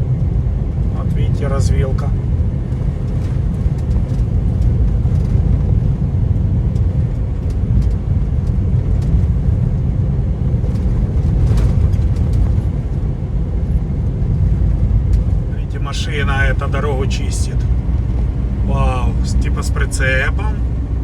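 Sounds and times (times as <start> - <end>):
truck engine low rumble: 0.0 - 21.0.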